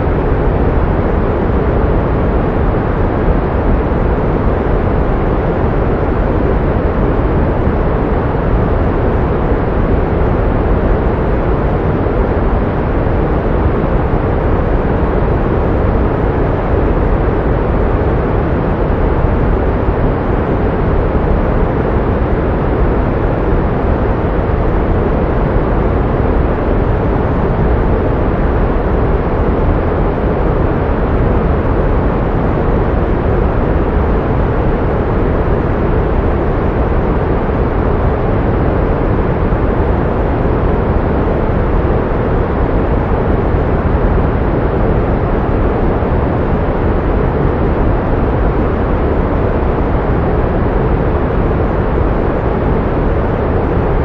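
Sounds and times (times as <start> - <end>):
pink noise: 0.0 - 54.0.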